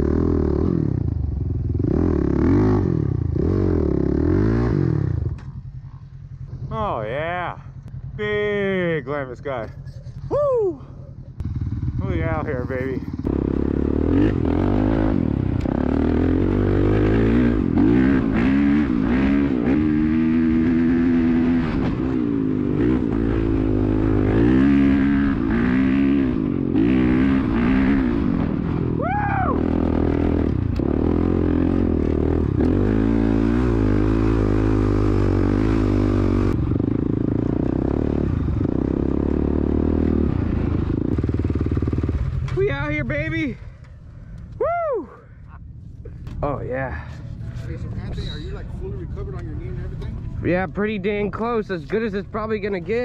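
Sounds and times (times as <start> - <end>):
dirt bike engine revving: 0.0 - 10.4, 11.1 - 44.1.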